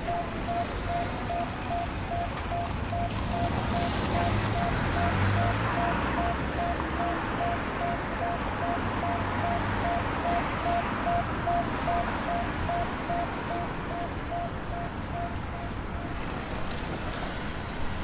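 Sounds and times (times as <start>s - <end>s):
crossing signal beeping: 0.0s - 16.2s
road traffic hum: 0.0s - 18.0s.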